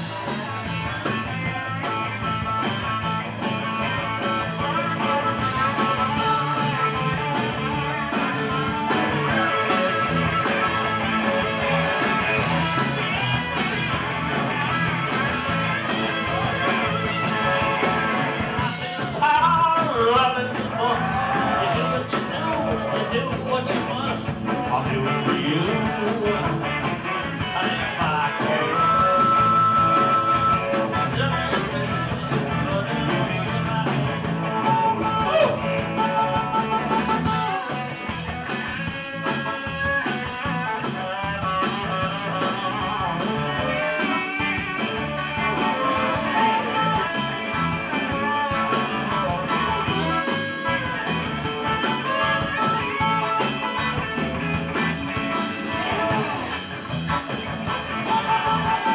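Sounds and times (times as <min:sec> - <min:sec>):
blues-rock band playing: 0:00.0 - 0:58.9
harmonica lead bending notes: 0:00.0 - 0:58.9.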